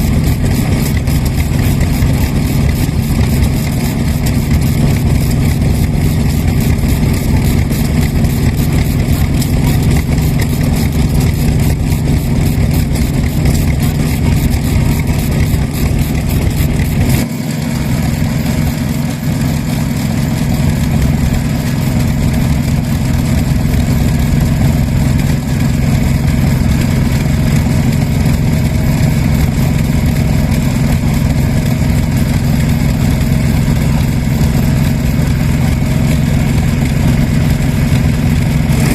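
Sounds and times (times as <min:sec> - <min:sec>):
different engine sound: 0:00.0 - 0:38.9
stationary engine running: 0:00.0 - 0:38.9.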